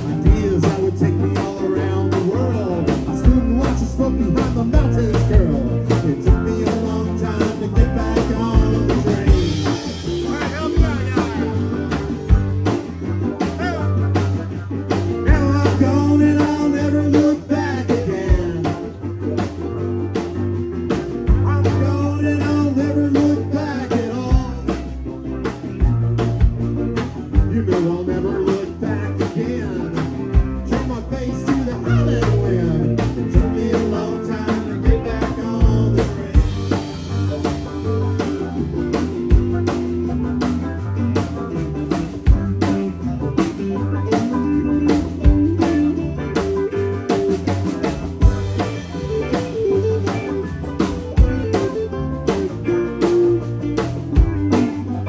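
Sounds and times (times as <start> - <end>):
drum kit beat: 0.0 - 55.0
electric bass: 0.0 - 55.0
electric guitars: 0.0 - 55.0.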